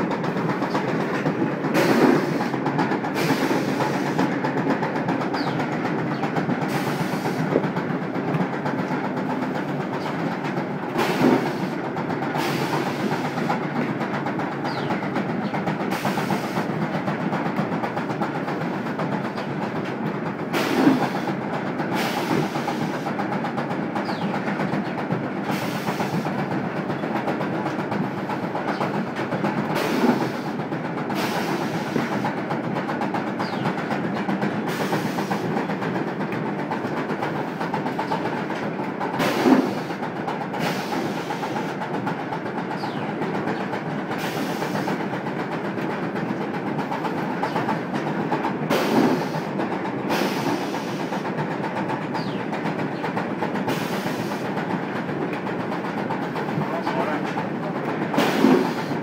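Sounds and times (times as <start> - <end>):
machinery mechanical clatter: 0.0 - 59.0.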